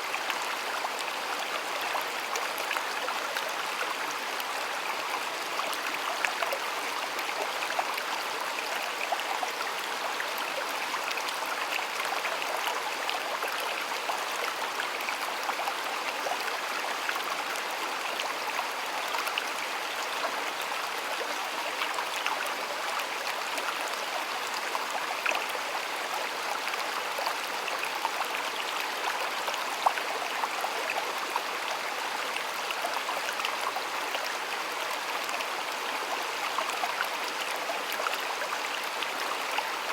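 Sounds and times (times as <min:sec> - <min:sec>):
stream water burbling: 0:00.0 - 0:39.9.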